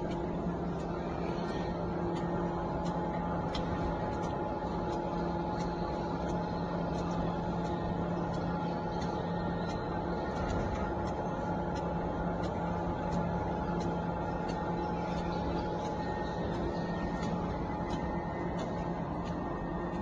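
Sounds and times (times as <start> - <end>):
faint regular ticking: 0.0 - 20.0
machine motor hum: 0.0 - 20.0.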